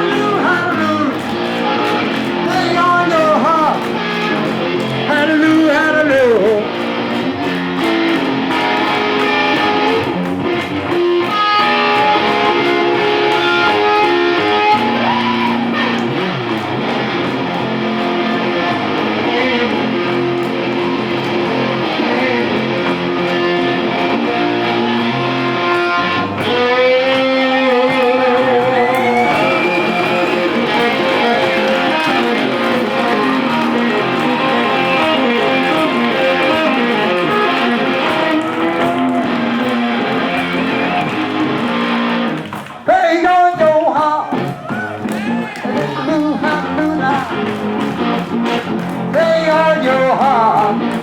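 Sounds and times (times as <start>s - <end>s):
live blues band: 0.0s - 51.0s.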